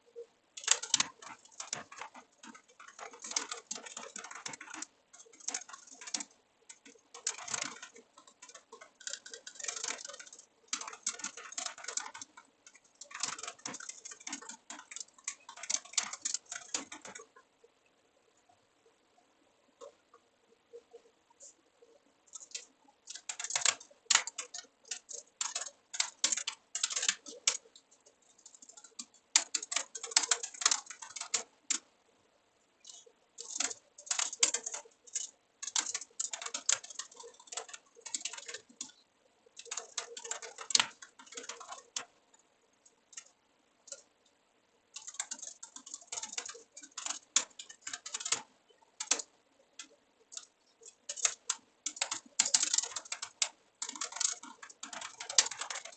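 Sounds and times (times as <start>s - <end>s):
keyboard typing clicks: 0.6s - 17.4s, 22.3s - 31.9s, 32.8s - 39.0s, 39.6s - 42.1s, 44.9s - 55.9s.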